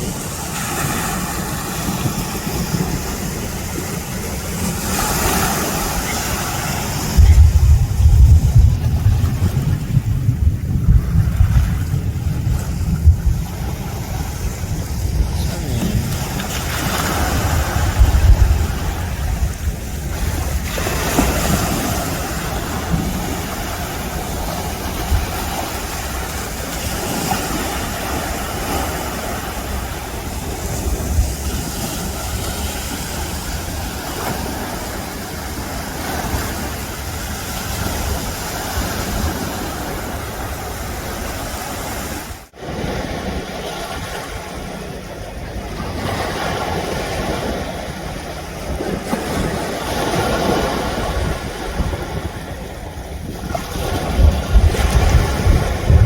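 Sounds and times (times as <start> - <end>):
sea surf breaking: 0.0 - 56.0
wind buffeting microphone: 0.0 - 56.0.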